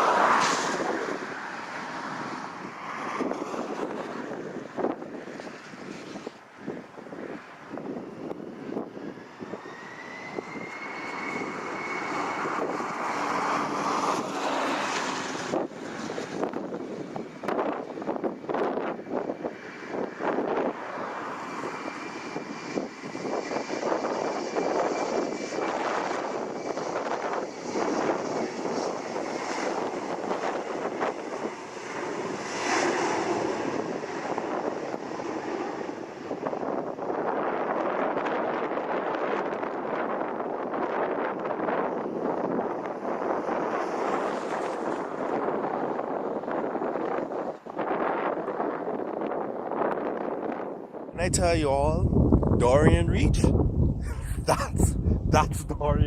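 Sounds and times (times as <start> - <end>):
jet engines passing: 0.0 - 56.0
wind buffeting microphone: 0.0 - 56.0.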